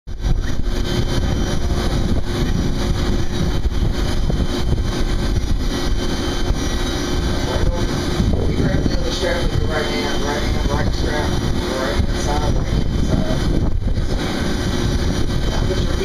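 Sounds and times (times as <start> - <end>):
machinery droning: 0.1 - 16.0.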